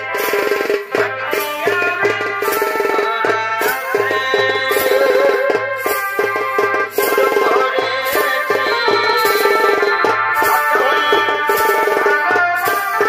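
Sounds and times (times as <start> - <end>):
barrel drum fast rhythm: 0.0 - 13.0.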